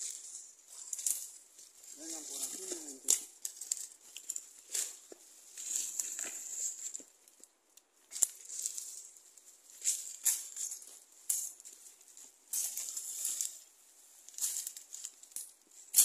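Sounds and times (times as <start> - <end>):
footsteps crunching through dry leaves: 0.0 - 7.5, 8.1 - 16.0
undergrowth rustling: 0.0 - 16.0.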